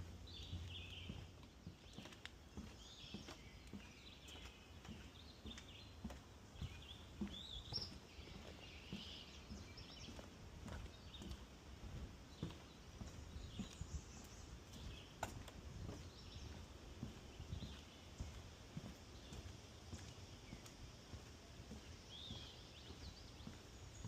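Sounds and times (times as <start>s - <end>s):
footsteps on wooden boardwalk: 0.0s - 24.0s
birds chirping and singing: 0.1s - 24.0s.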